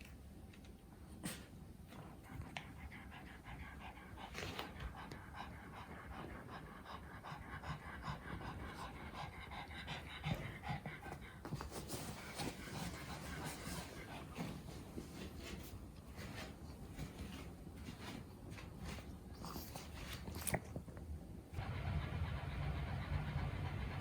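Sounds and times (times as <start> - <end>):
dog panting: 1.2 - 18.2, 21.6 - 24.0.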